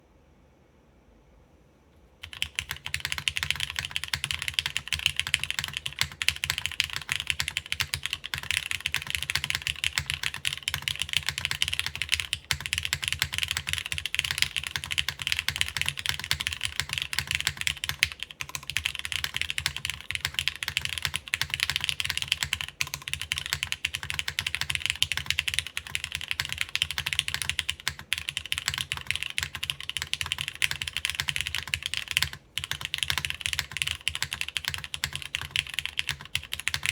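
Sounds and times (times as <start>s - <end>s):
mechanical keyboard typing: 2.2s - 36.9s.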